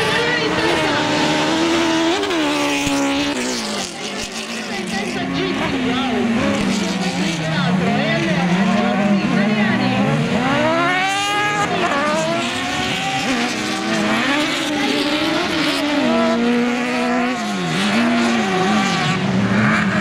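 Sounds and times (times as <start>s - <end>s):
buggy engines racing: 0.0s - 20.0s.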